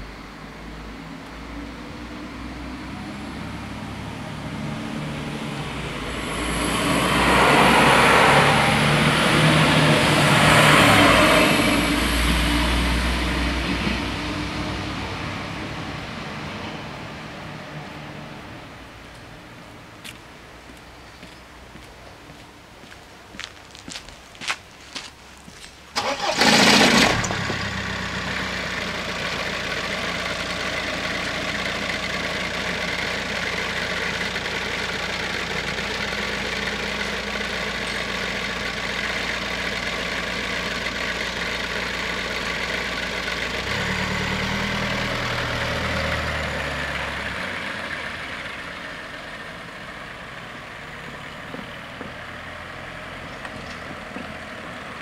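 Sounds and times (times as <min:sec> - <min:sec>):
diesel engine running: 0:00.0 - 0:19.0, 0:23.3 - 0:55.0.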